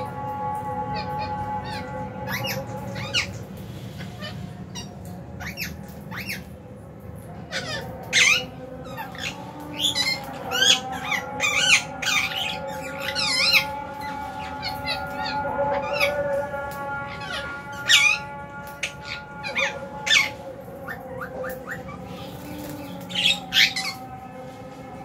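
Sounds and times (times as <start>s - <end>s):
birds chirping and squawking: 0.0s - 25.0s
steady background hum: 0.0s - 25.0s.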